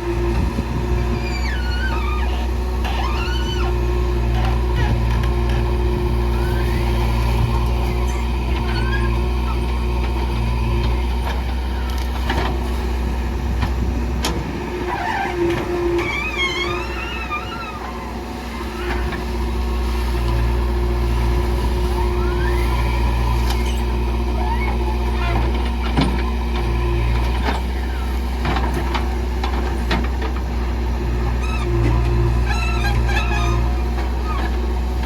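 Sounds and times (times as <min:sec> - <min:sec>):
diesel engine under load: 0:00.0 - 0:35.0.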